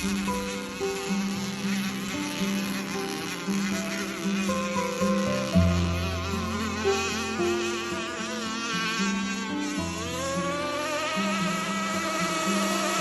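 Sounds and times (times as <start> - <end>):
small two-stroke engine buzzing: 0.0 - 13.0.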